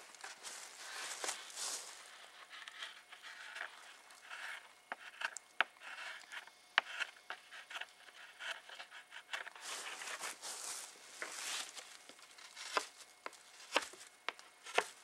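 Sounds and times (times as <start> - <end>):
knife shaving wood: 0.0 - 15.0.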